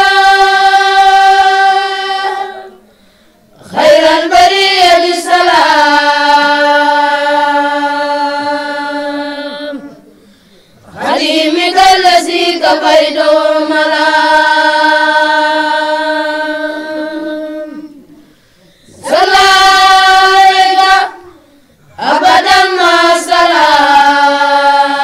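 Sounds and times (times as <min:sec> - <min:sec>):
children chanting religious verse: 0:00.0 - 0:25.0.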